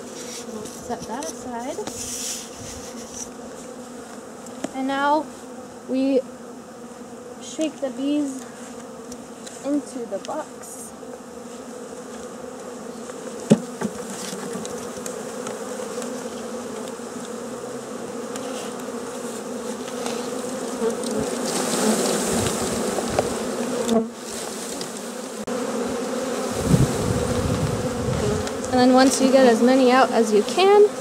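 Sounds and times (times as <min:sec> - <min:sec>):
honeybees buzzing: 0:00.0 - 0:31.0.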